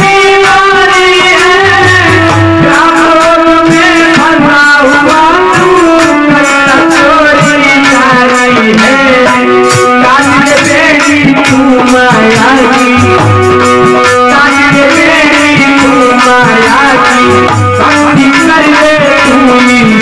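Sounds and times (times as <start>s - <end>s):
instrumental accompaniment: 0.0s - 20.0s
man singing long held notes: 0.0s - 20.0s
drum strokes: 1.0s - 20.0s.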